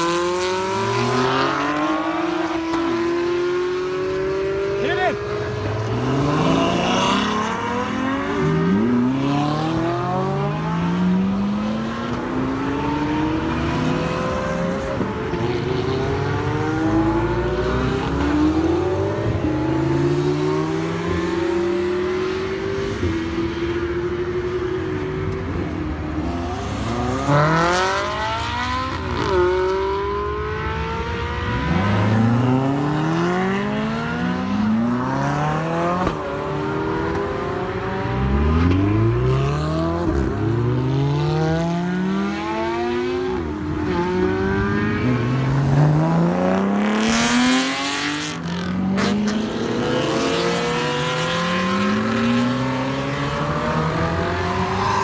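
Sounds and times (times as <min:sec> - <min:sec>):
sports cars accelerating hard: 0:00.0 - 0:55.0.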